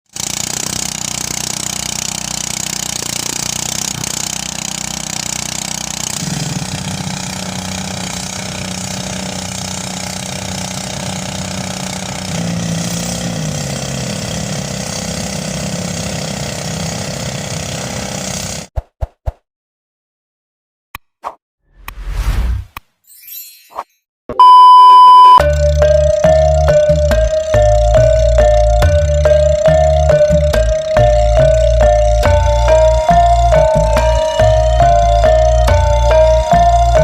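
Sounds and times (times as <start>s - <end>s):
rice thresher mechanical drone: 0.1s - 18.7s, 25.4s - 37.0s.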